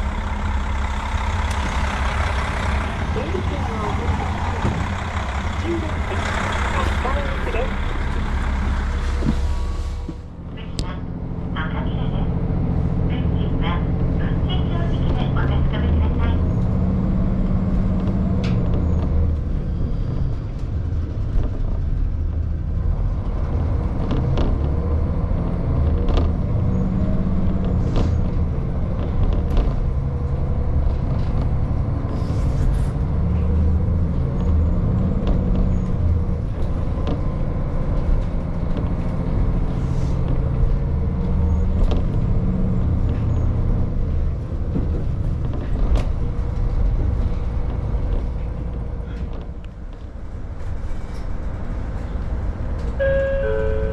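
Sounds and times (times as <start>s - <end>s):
diesel railcar engine drone: 0.0s - 53.9s.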